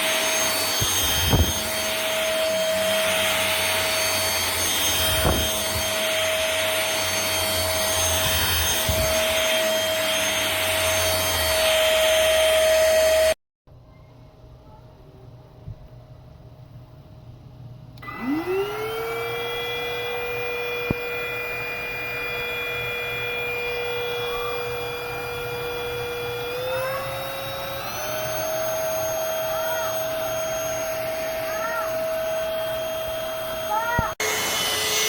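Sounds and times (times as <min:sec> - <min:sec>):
vacuum motor whine: 0:00.0 - 0:13.4, 0:18.0 - 0:35.0.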